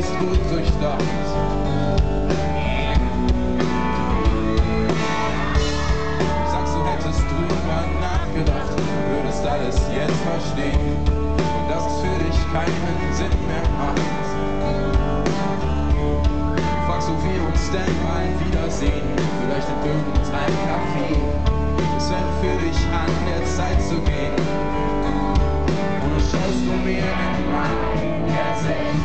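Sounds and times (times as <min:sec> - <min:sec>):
bass guitar: 0:00.0 - 0:29.0
electric guitars: 0:00.0 - 0:29.0
steady drum beat: 0:00.0 - 0:29.0.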